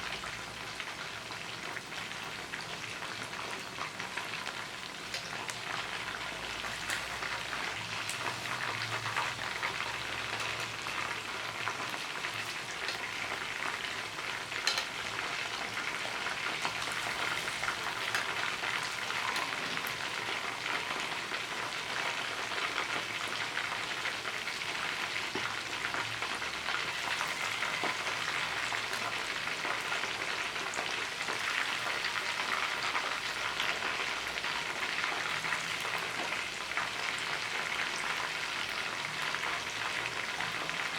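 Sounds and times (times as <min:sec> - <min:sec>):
chicken frying in hot oil: 0:00.0 - 0:40.9.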